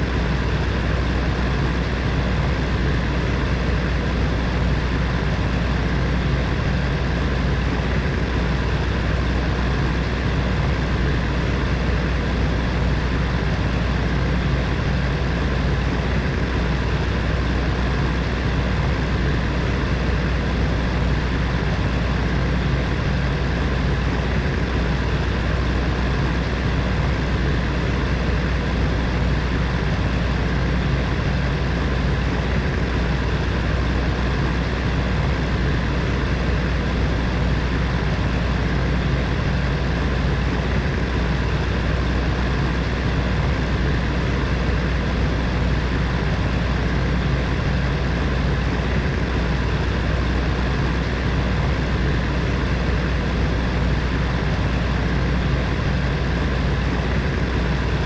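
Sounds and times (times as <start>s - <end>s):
heater fan running: 0.0s - 58.0s.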